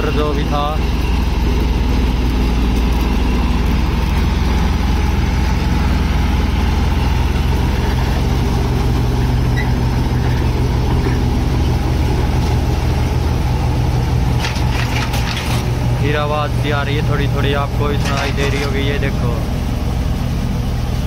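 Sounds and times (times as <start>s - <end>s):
heavy noise from reaper: 0.0s - 21.0s
tractor running under load: 0.0s - 21.0s.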